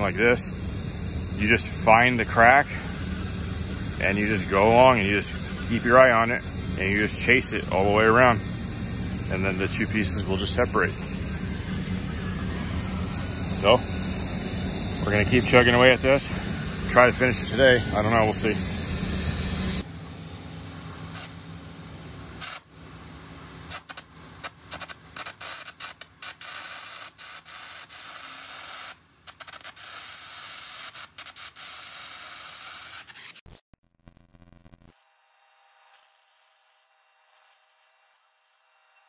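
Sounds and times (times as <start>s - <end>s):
gouging torch hissing crackle: 0.0s - 19.9s, 23.7s - 33.4s, 35.8s - 38.6s.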